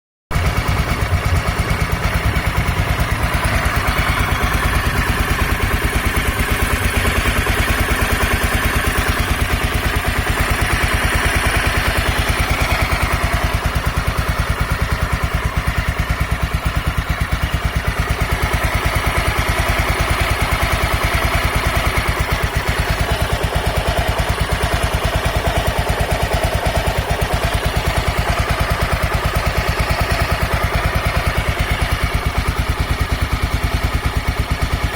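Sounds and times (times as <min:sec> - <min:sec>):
motorcycle engine idling: 0:00.3 - 0:34.9.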